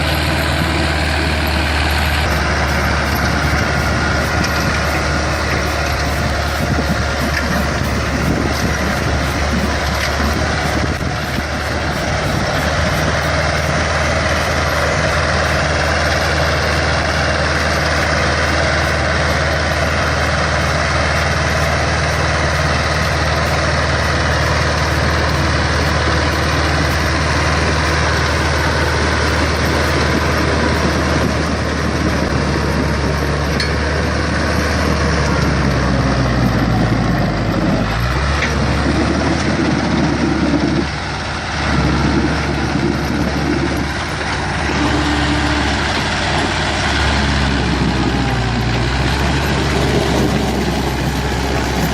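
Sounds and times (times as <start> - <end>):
truck engine humming: 0.0 - 51.9.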